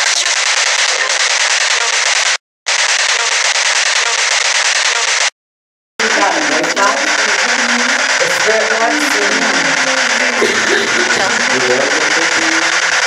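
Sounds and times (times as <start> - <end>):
harsh radio static hiss: 0.0 - 5.3, 6.0 - 13.0.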